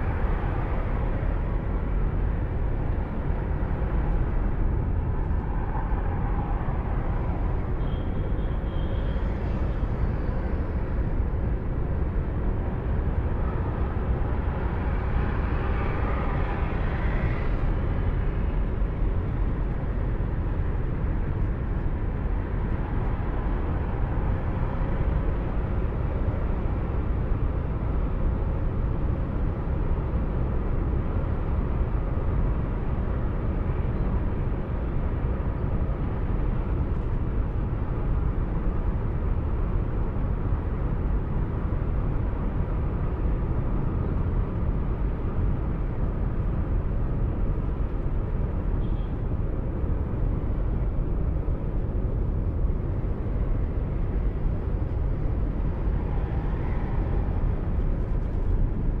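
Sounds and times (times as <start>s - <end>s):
car driving on road: 0.0s - 59.0s.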